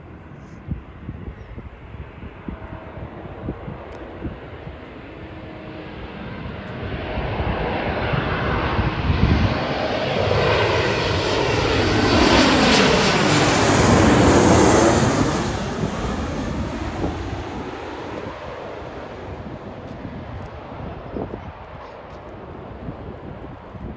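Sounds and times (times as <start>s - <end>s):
airliner engine flying past: 0.0s - 23.9s.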